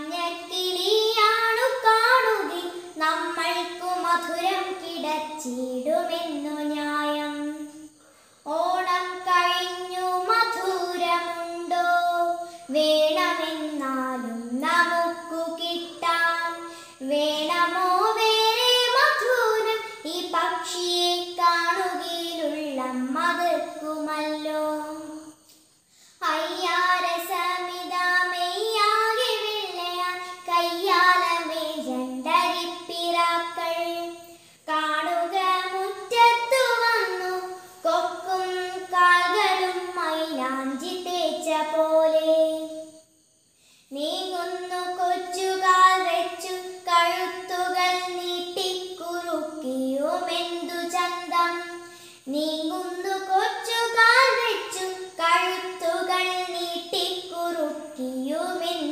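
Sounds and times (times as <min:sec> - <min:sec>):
girl singing unaccompanied: 0:00.0 - 0:58.9.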